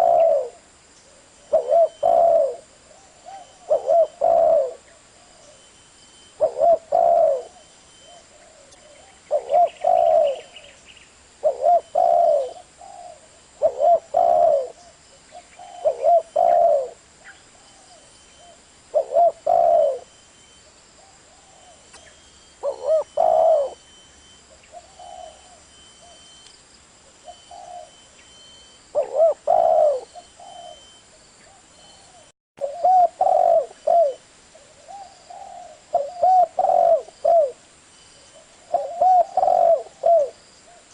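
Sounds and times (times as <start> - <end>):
dove cooing: 0.0 - 5.7, 6.3 - 10.8, 11.4 - 20.1, 21.0 - 23.9, 24.5 - 26.3, 27.1 - 28.1, 28.9 - 37.6, 38.4 - 40.9.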